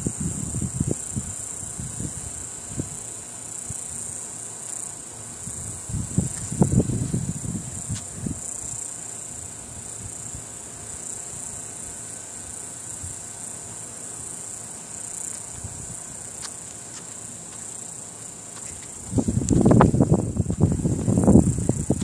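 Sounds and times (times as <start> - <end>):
insects shrilling: 0.0 - 22.0.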